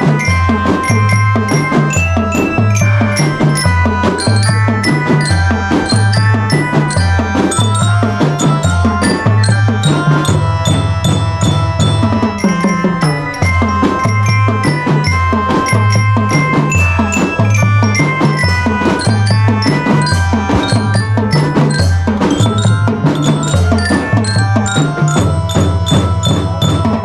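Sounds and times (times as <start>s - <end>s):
bell lyre melody: 0.0s - 27.0s
marching drums beating: 0.0s - 27.0s.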